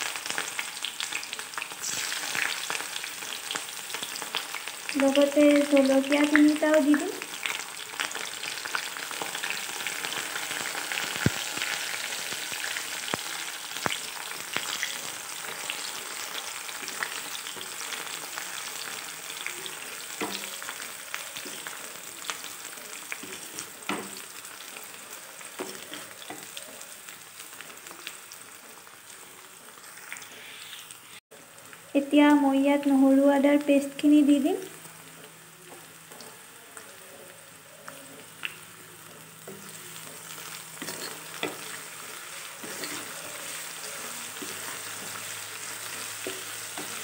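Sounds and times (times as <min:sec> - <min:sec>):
onions sizzling in hot oil: 0:00.0 - 0:47.0.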